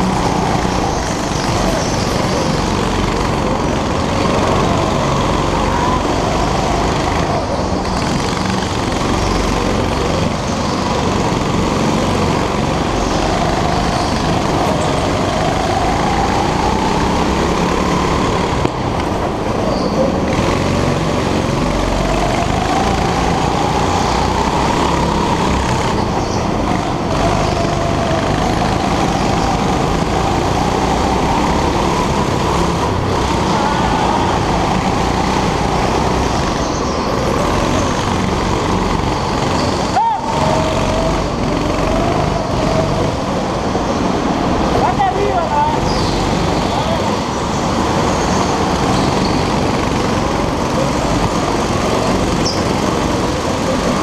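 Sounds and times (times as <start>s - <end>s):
go-kart engine revving: 0.0s - 54.0s
wind and track noise: 0.0s - 54.0s.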